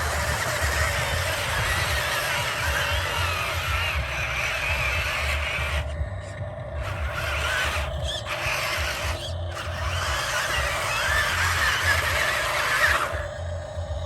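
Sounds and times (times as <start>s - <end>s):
electric motors whirring: 0.0s - 14.0s.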